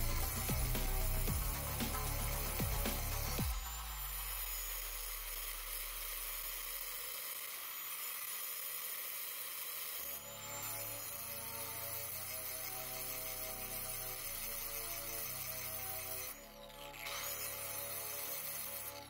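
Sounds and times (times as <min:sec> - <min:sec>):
angle grinder grinding metal blade: 0:00.0 - 0:19.0.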